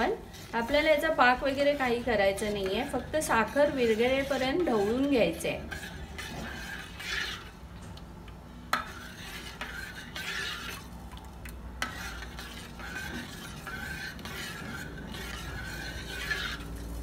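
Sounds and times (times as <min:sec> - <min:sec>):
spoon stirring in saucepan: 0:00.0 - 0:17.0.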